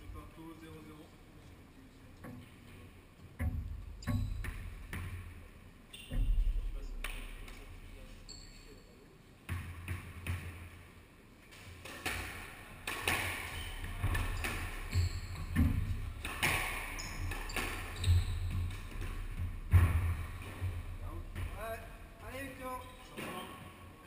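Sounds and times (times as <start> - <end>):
squash ball hitting rackets and walls: 2.2 - 7.9, 9.4 - 23.8.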